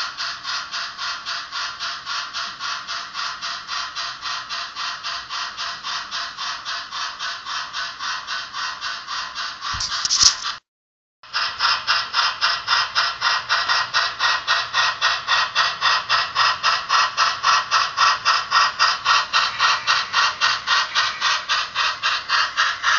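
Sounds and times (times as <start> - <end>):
model steam locomotive chuffing: 0.0 - 10.5, 11.2 - 22.9.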